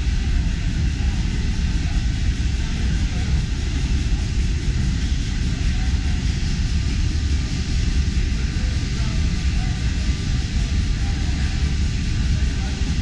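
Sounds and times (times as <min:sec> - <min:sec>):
steam engine running: 0:00.0 - 0:13.0.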